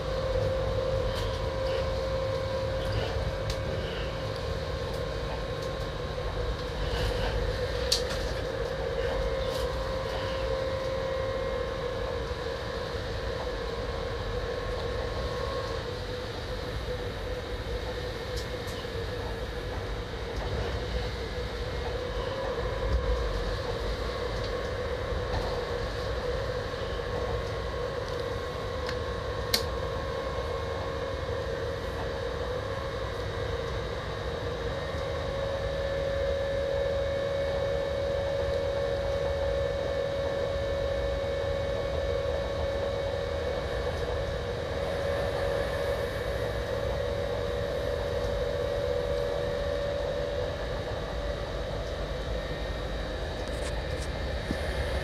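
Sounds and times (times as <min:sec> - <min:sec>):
train running rumble with whine: 0:00.0 - 0:55.0.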